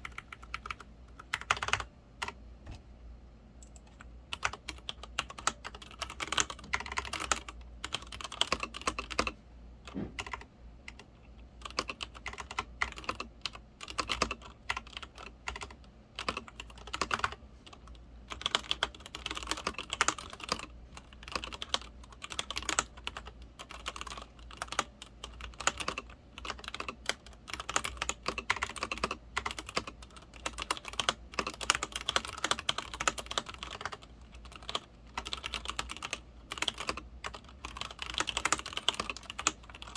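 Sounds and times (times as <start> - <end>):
mechanical keyboard typing: 0.0 - 2.4, 3.6 - 39.9.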